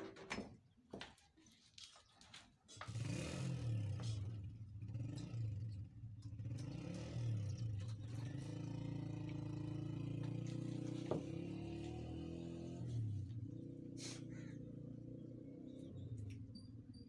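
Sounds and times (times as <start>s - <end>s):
engine humming: 2.8s - 17.0s.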